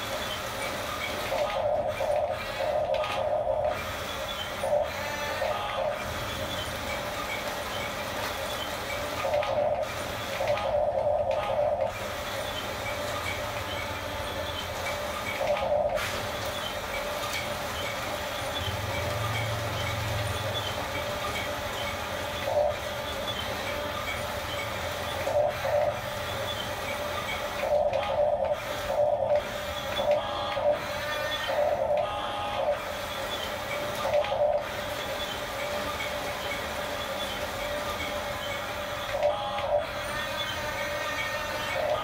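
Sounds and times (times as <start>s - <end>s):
toy bulldozer motors whirring: 0.0s - 42.0s.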